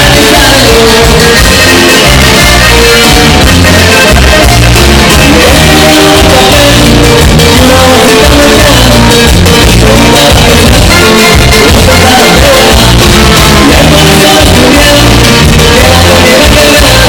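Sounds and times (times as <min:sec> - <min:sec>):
live band playing latin song: 0:00.0 - 0:17.0
person singing: 0:00.0 - 0:17.0.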